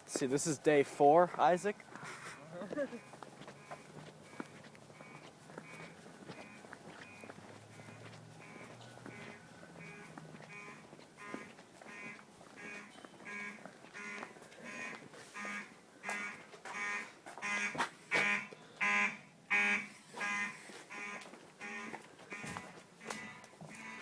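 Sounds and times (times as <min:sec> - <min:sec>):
fire alarm horn blasts: 0:02.2 - 0:24.0.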